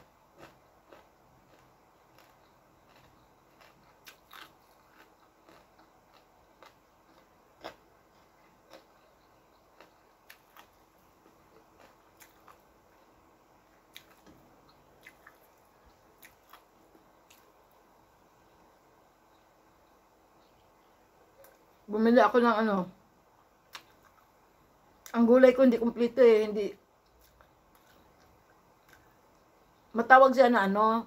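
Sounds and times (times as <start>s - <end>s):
chewing with small crunches: 0.0s - 21.9s, 23.7s - 24.4s, 27.0s - 29.9s.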